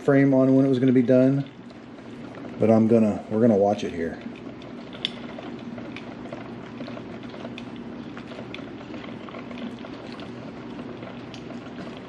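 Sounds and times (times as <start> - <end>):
coffee maker bubbling and crackling: 0.0 - 12.0.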